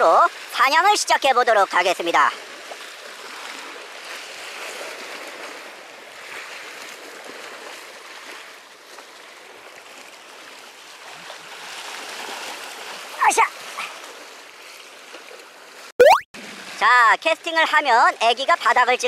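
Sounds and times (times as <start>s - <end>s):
waves lapping against rocks: 0.0s - 17.8s.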